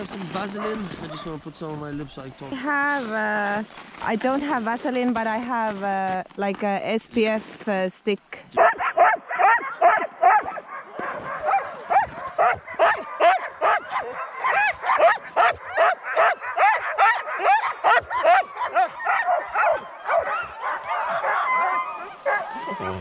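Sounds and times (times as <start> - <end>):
sled dogs barking and yelping: 0.0 - 6.2, 8.5 - 23.0.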